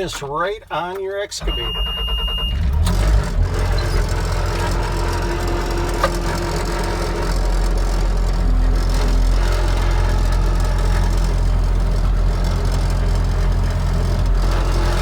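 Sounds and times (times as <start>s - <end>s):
loader engine rumble: 0.0s - 15.0s.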